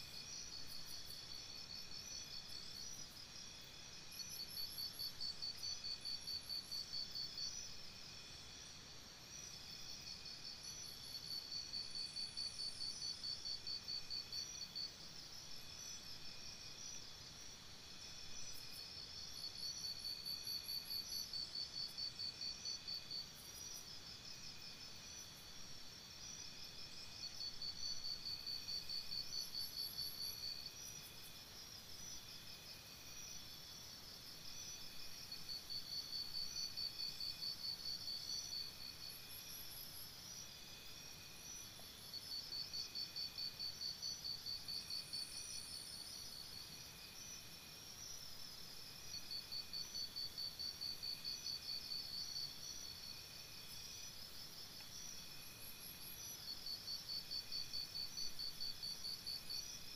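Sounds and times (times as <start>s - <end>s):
crickets chirping in trills: 0.0s - 59.9s
faint steady hiss: 0.0s - 59.9s.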